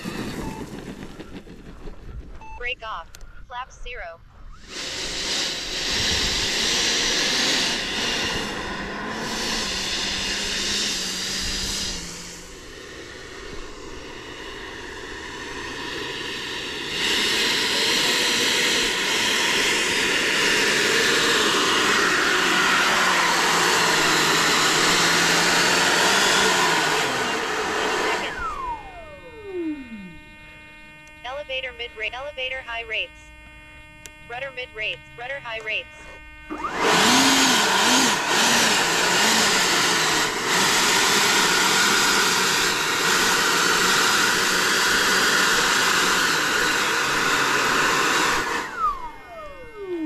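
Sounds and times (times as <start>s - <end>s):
fan spinning down: 0.0s - 3.2s, 4.3s - 35.2s, 36.1s - 50.0s
electric fan whining: 0.0s - 50.0s.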